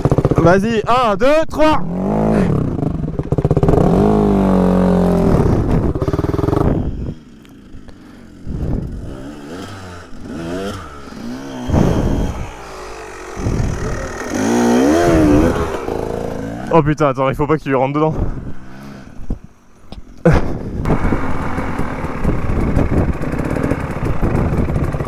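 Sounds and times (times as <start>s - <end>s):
dirt bike engine revving: 0.0s - 0.7s, 1.8s - 17.0s, 20.3s - 25.0s.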